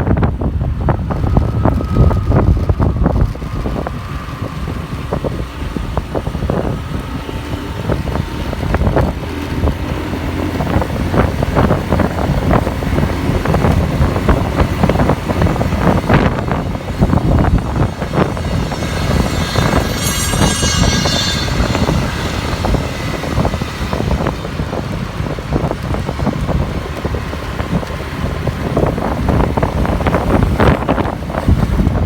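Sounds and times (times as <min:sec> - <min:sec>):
motorbike rumble: 0:00.0 - 0:32.0
surrounding traffic: 0:00.0 - 0:32.0
wind buffeting microphone: 0:00.0 - 0:32.0.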